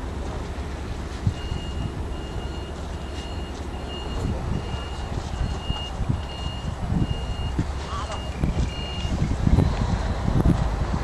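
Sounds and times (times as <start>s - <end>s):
low uneven rumble: 0.0s - 11.0s
high electronic beeps: 1.4s - 10.2s.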